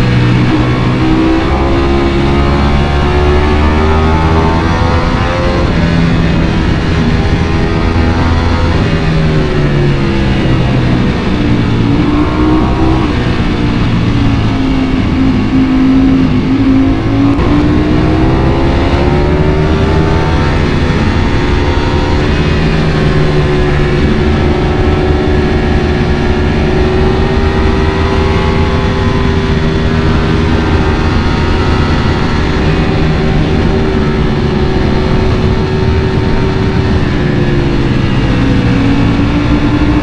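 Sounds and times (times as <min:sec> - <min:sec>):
motorcycle engine on the road: 0:00.0 - 0:40.0.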